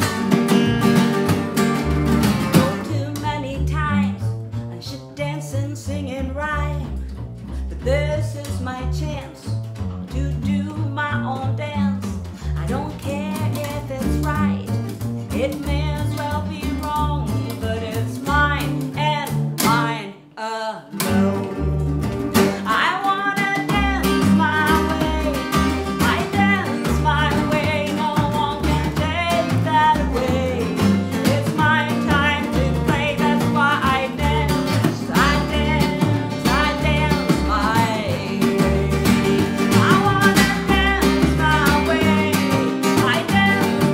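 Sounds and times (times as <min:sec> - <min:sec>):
acoustic band playing: 0:00.0 - 0:20.2, 0:20.9 - 0:43.9
woman singing: 0:02.3 - 0:43.9.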